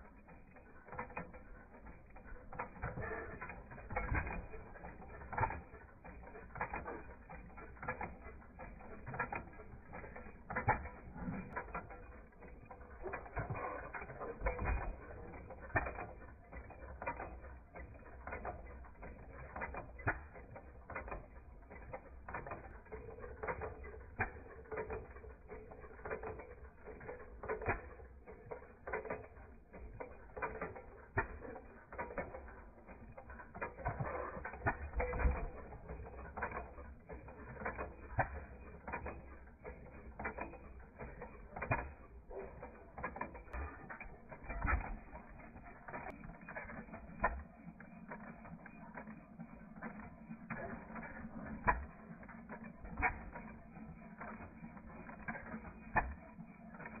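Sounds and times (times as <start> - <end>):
model gas engines clicking and tapping: 0.0 - 57.0.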